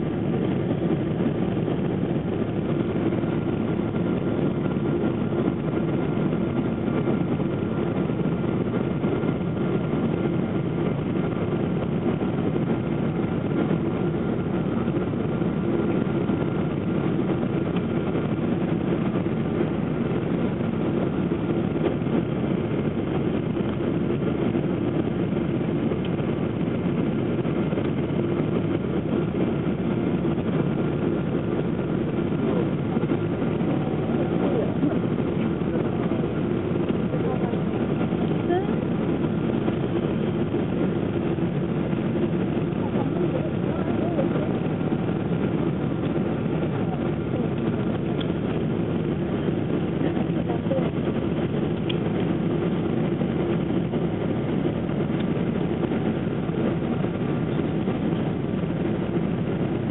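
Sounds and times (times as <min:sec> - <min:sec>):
aircraft engine and airflow drone: 0:00.0 - 0:59.9.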